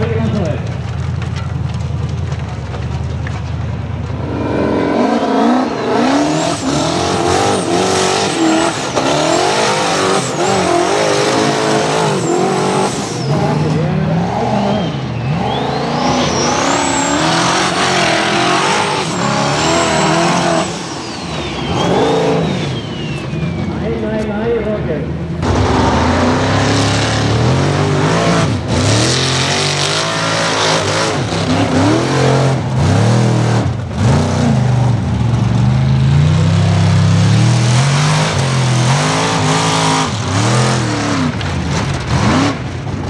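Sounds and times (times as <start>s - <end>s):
buggy engine revving: 0.0s - 43.0s.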